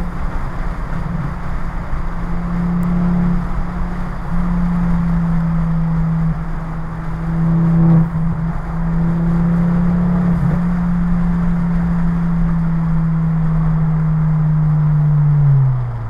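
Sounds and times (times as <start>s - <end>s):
car engine droning: 0.0s - 16.0s
tyre and road rumble: 0.0s - 16.0s.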